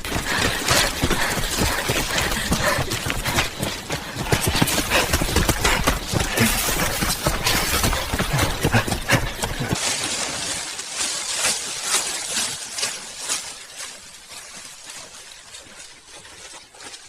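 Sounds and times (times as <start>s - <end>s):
rapid crackling and rustling: 0.0s - 17.0s.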